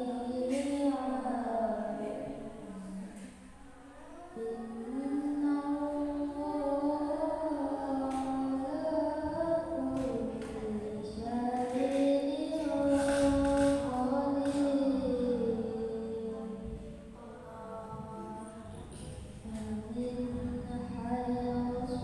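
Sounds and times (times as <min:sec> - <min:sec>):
girl reciting melodically: 0:00.0 - 0:22.0.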